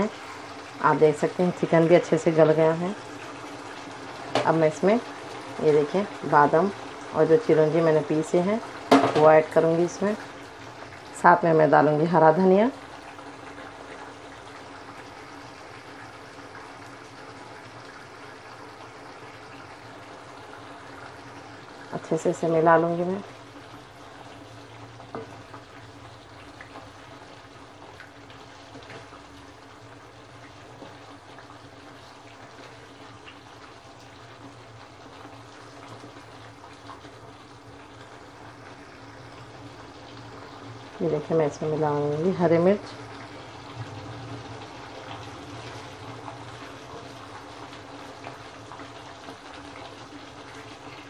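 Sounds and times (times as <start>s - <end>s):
curry simmering and sizzling: 0.0s - 51.0s.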